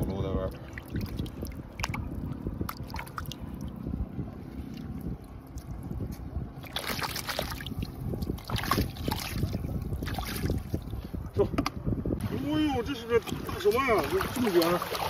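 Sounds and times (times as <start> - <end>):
low wind rumble on microphone: 0.0 - 15.0
seawater splashing and dripping: 0.4 - 11.1, 13.0 - 15.0.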